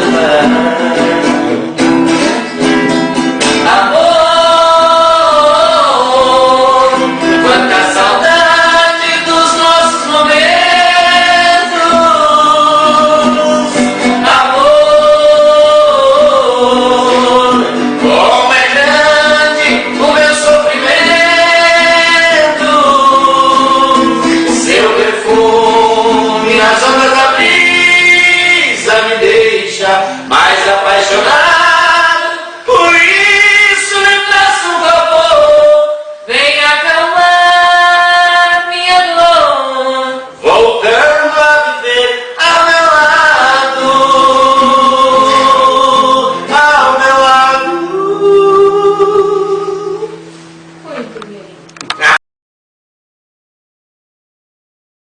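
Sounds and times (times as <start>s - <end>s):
voices singing a love song: 0.0s - 2.6s, 3.4s - 51.0s.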